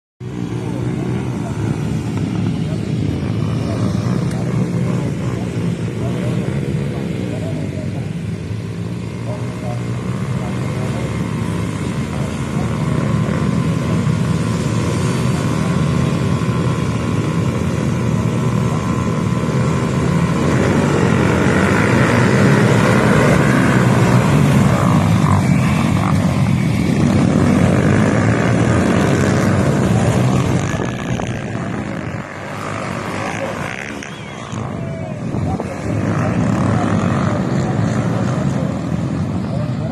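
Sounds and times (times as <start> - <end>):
dirt bike engines revving high: 0.2 - 39.9.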